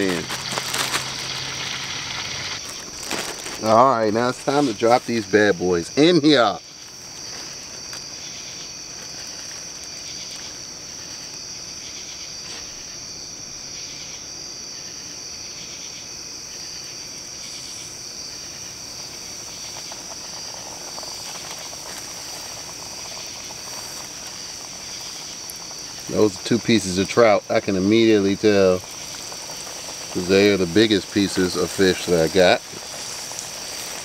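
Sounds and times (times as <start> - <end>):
hot oil sizzling: 0.0 - 14.1, 16.7 - 34.0
insects trilling: 0.0 - 34.0.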